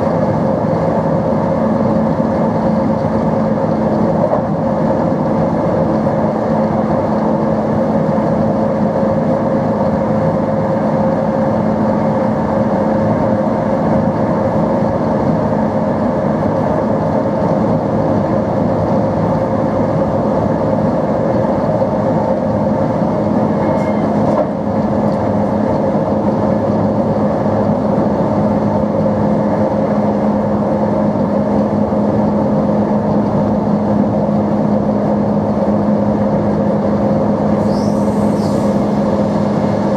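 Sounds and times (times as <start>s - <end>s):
train motor hum: 0.0s - 39.9s
train rumbling: 0.0s - 39.9s.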